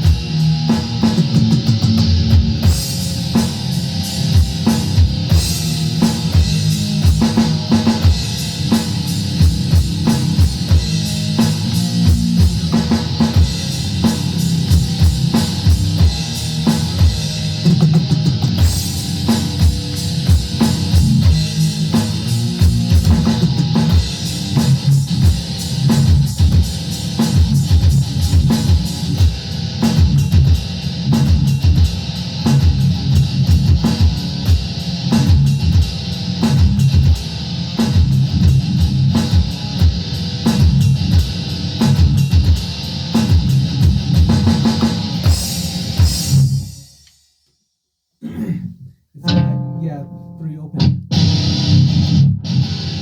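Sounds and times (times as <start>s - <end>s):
fast drum hits: 0.0s - 46.7s
rock music on guitar: 0.0s - 46.8s, 50.8s - 53.0s.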